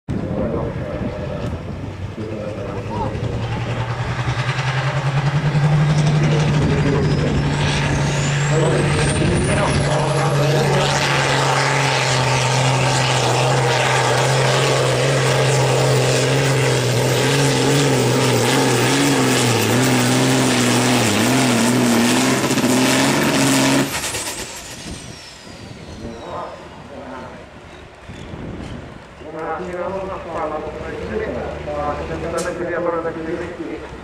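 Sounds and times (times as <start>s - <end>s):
tractor diesel engine at full load: 0.2s - 25.0s, 29.2s - 34.0s.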